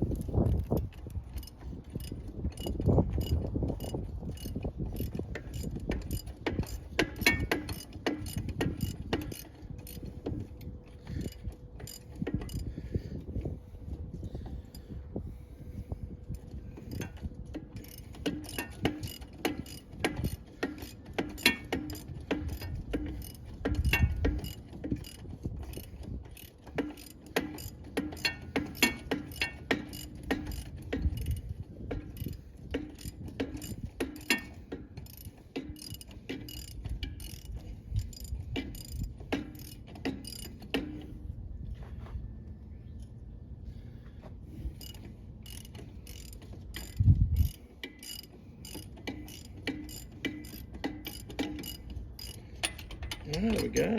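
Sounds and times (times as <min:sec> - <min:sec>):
ratchet wrench clicking: 0:00.0 - 0:12.7, 0:16.3 - 0:41.1, 0:44.8 - 0:53.9.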